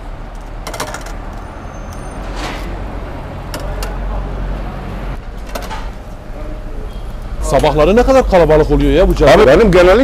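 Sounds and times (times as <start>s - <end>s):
low rumble of street traffic: 0.0s - 10.0s.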